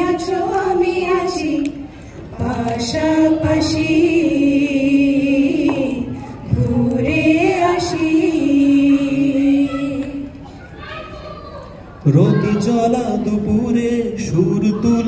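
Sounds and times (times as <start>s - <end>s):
group of people singing together: 0.0s - 10.4s, 12.1s - 15.0s.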